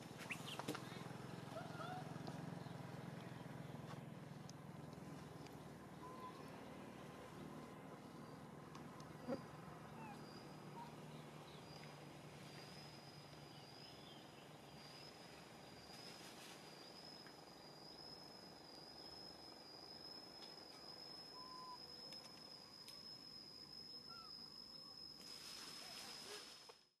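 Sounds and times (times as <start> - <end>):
outdoor background hiss: 0.0 - 27.0
insect droning: 4.4 - 27.0.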